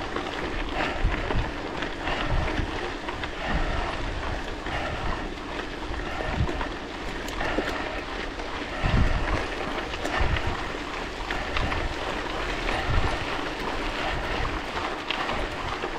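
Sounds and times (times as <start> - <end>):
tyres on gravel road: 0.0 - 15.9
wind buffeting microphone: 0.0 - 15.9.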